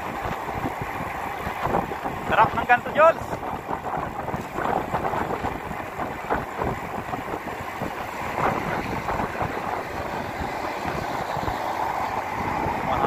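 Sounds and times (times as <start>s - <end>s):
low road rumble: 0.0s - 13.0s
wind rush on microphone: 0.0s - 13.0s.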